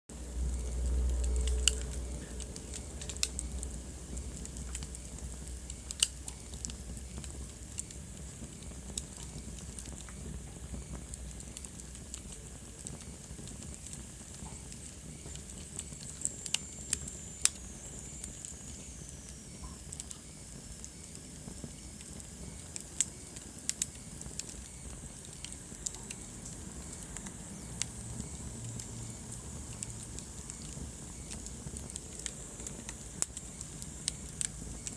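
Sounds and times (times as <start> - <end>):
wood fire crackling and popping: 0.1 - 34.9.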